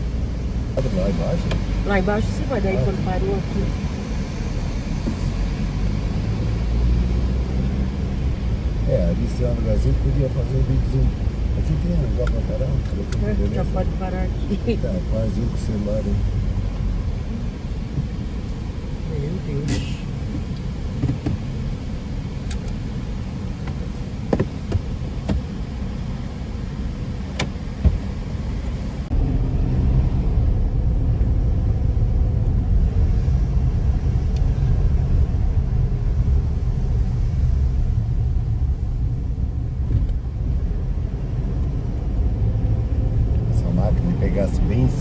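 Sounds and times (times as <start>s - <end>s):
car road rumble inside cabin: 0.0s - 45.0s.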